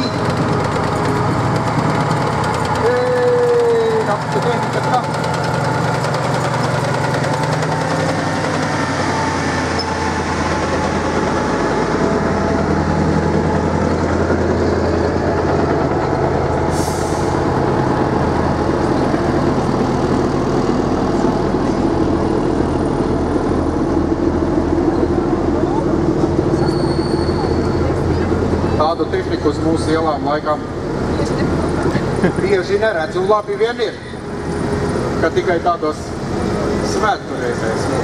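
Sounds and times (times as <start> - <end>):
military vehicle engines humming: 0.0 - 38.0.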